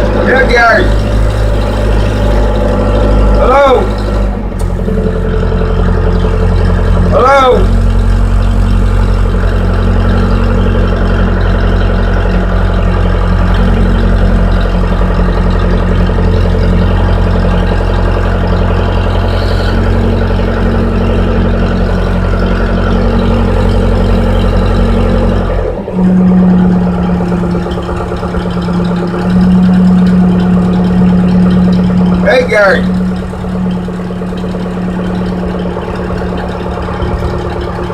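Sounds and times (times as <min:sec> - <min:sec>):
diesel engine running: 0:00.0 - 0:37.9
higher engine hum: 0:00.0 - 0:37.9.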